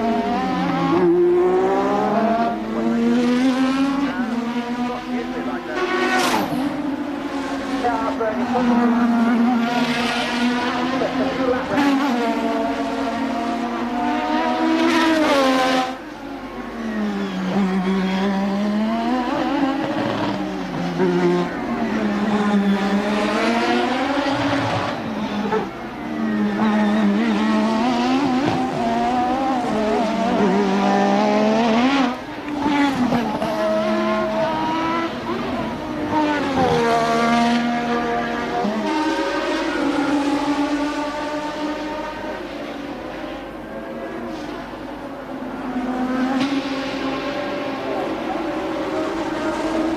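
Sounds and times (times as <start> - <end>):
racing car engines revving hard: 0.0 - 49.9.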